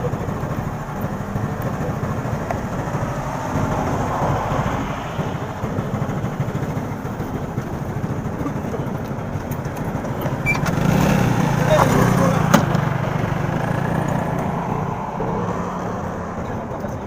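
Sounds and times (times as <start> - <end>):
city road traffic: 0.0 - 17.0
vehicle passing: 0.0 - 17.0.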